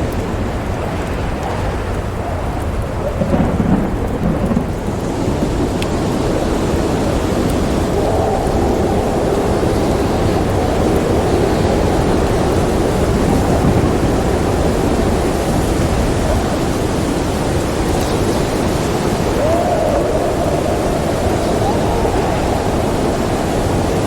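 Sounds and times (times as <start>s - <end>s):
storm wind howling: 0.0s - 24.0s.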